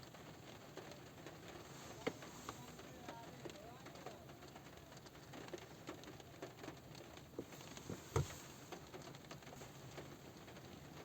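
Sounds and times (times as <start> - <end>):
rain pattering on car roof: 0.0 - 11.0.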